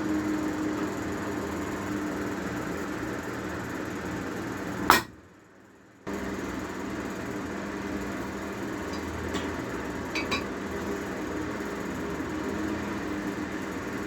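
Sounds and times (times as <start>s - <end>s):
mechanical hum with low drone: 0.0s - 14.0s.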